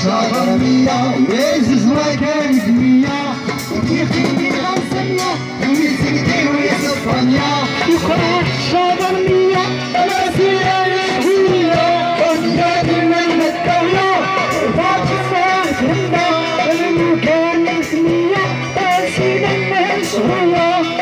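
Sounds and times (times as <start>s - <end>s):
person singing: 0.0s - 21.0s
plucked string instruments: 0.0s - 21.0s
steady percussion beat: 0.0s - 21.0s.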